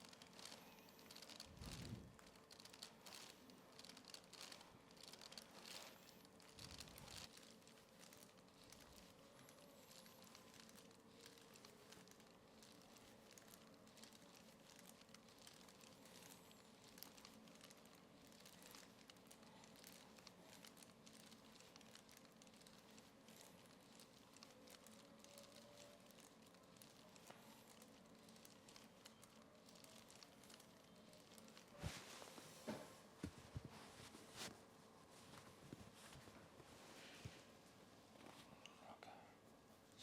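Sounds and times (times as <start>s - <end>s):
faint steady hum: 0.0s - 40.0s
soft rustles and ticks: 0.0s - 40.0s.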